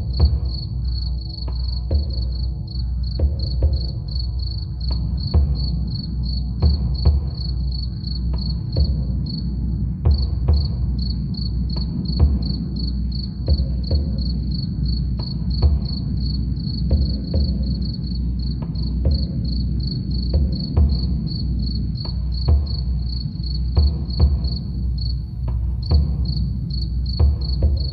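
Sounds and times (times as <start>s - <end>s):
crickets chirping: 0.0s - 27.9s
low drum beats: 0.0s - 27.9s.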